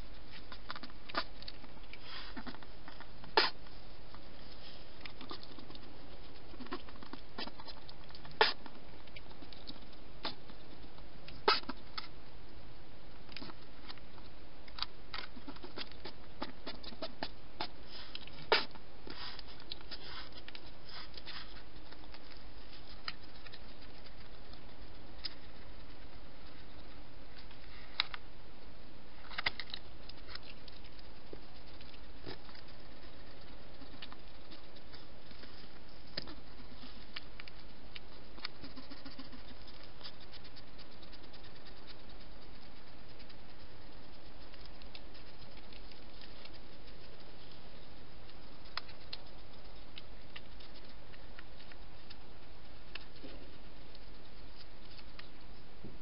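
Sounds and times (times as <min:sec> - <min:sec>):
hedgehog crunching dry food: 0:00.0 - 0:12.2, 0:13.2 - 0:28.3, 0:29.2 - 0:56.0.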